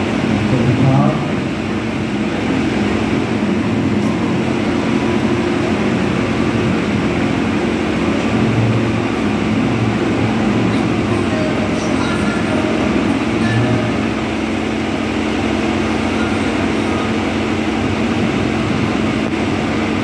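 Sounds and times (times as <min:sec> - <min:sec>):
mechanical hum and rumble: 0:00.0 - 0:20.0.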